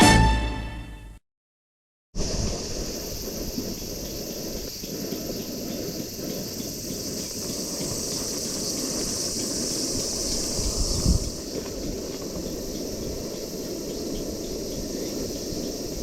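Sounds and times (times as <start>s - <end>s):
insects chirring: 2.2s - 16.0s.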